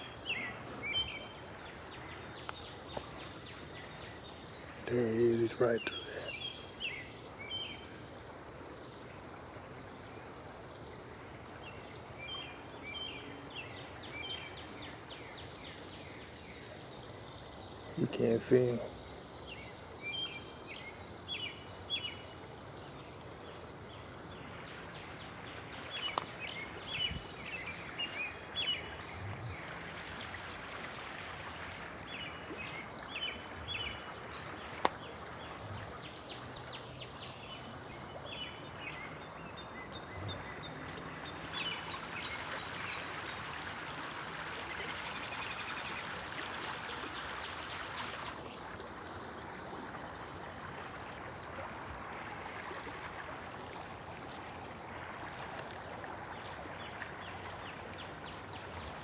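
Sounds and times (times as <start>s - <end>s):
outdoor hiss: 0.0s - 39.6s, 40.8s - 49.5s
songbirds chirping: 0.0s - 59.0s.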